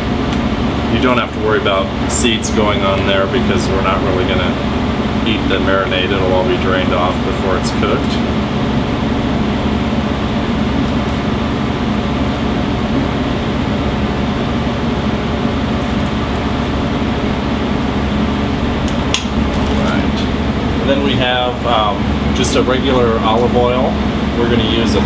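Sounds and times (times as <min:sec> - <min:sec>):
ventilation fan rushing hum: 0:00.0 - 0:25.0.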